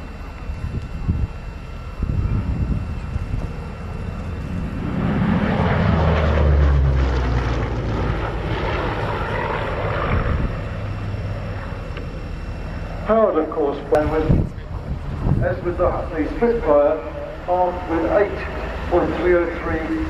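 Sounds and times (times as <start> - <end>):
propeller aircraft engine passing: 0.0 - 20.0.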